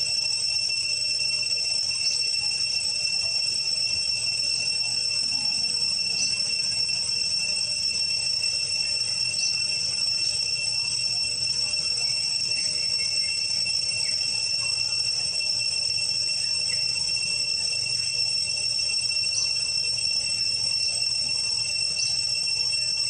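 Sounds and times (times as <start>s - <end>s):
insect chorus drone: 0.0s - 23.0s.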